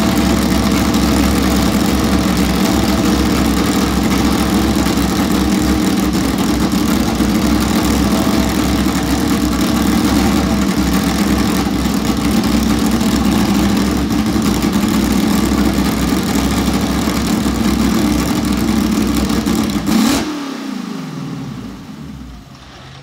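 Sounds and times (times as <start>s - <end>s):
racing engine idling: 0.0s - 20.2s.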